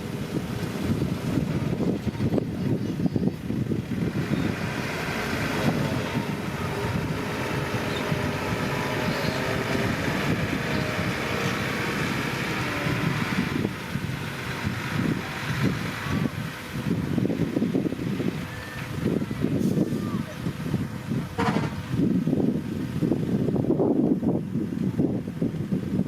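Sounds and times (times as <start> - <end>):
heavy diesel machinery running: 0.0 - 25.8.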